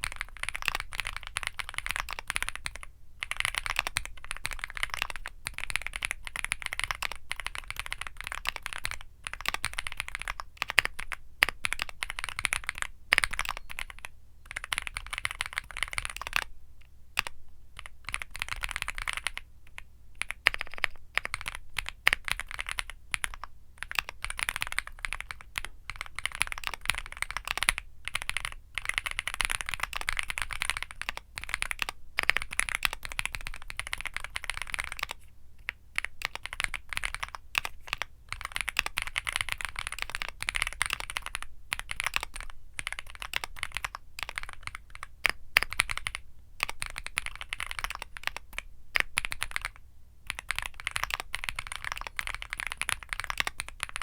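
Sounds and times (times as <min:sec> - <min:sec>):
mechanical keyboard typing: 0:00.0 - 0:16.5, 0:17.2 - 0:54.0.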